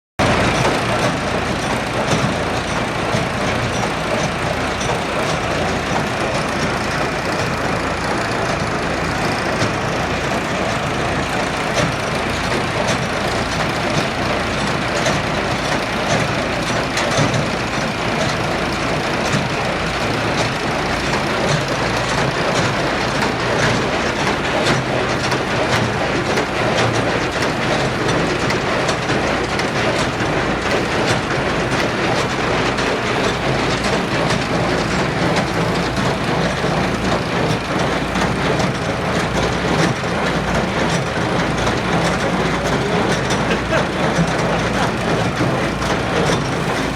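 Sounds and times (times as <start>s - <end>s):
baler mechanical clatter: 0.2s - 46.9s.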